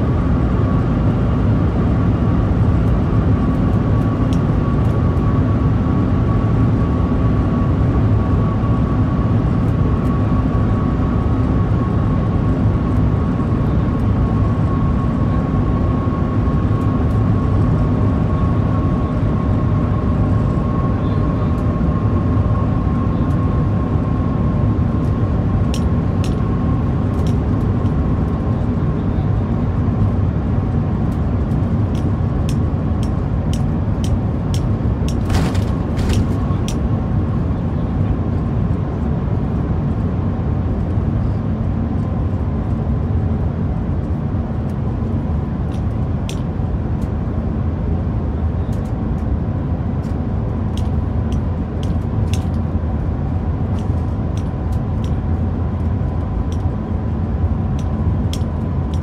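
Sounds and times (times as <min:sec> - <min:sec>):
train rumble and air rush: 0:00.0 - 0:59.0.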